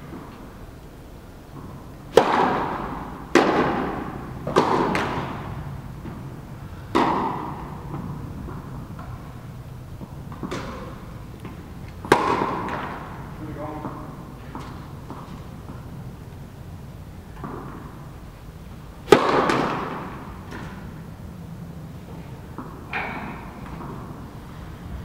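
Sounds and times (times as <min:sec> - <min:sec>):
tennis balls hit with rackets: 0:01.5 - 0:16.4, 0:17.2 - 0:21.2, 0:22.0 - 0:24.4.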